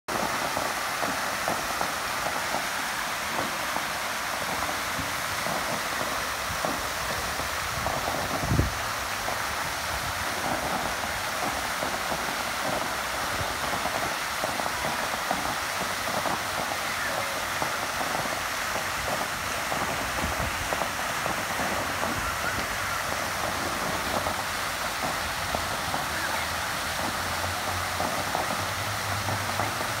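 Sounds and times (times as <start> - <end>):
fountain splashing into pond: 0.1 - 30.0.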